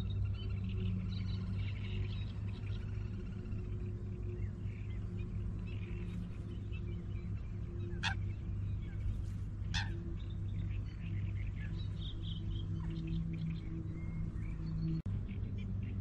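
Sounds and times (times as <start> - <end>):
faint bird chirps: 0.0 - 16.0
low ambient drone: 0.0 - 16.0.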